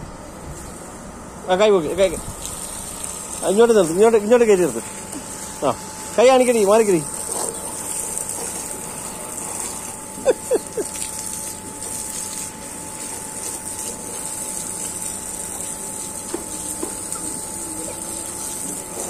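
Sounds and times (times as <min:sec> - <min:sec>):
hose spraying onto concrete: 0:01.9 - 0:19.0.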